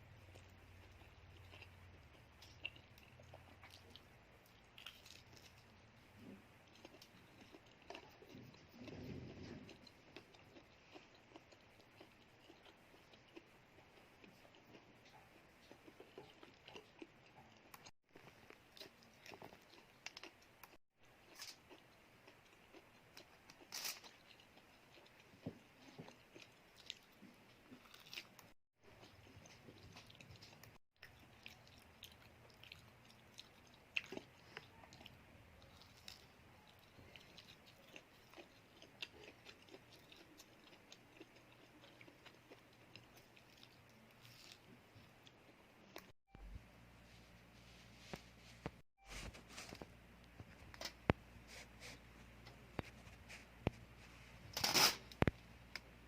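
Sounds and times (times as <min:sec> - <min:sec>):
chewing and crunching: 0:00.1 - 0:46.2.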